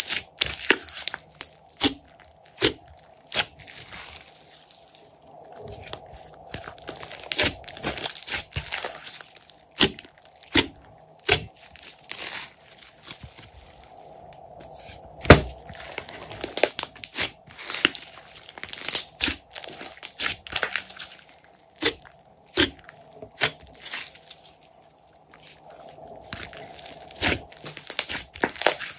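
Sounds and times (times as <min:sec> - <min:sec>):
slime squishing with pops: 0:00.0 - 0:04.8, 0:05.6 - 0:13.8, 0:14.7 - 0:24.6, 0:25.3 - 0:28.9.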